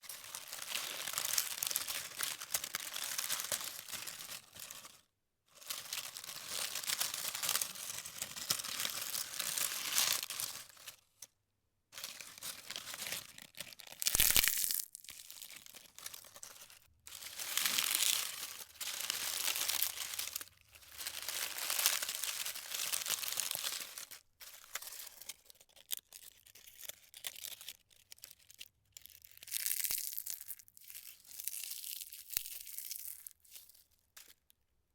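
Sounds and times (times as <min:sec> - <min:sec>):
dry leaves crunched by hand: 0:00.0 - 0:05.0, 0:05.6 - 0:11.0, 0:12.0 - 0:24.9, 0:29.3 - 0:34.3.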